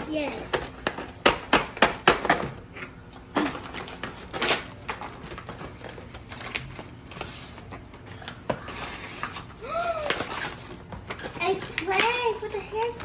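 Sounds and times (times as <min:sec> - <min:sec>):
packaging clicks and rustling: 0:00.3 - 0:13.0.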